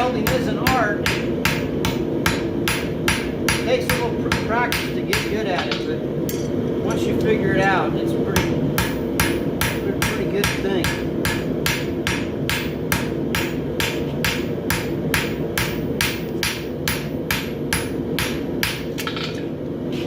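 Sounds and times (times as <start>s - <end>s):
hammer striking metal on anvil: 0.0s - 6.6s, 8.4s - 19.4s.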